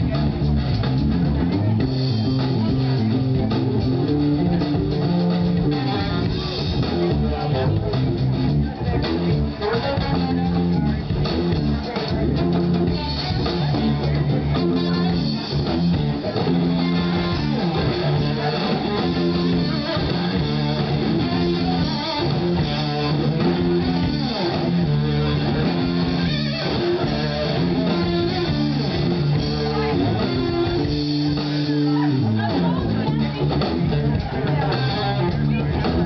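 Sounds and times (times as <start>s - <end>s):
bass guitar: 0.0s - 36.0s
electric guitar: 0.0s - 36.0s
rock band playing: 0.0s - 36.0s.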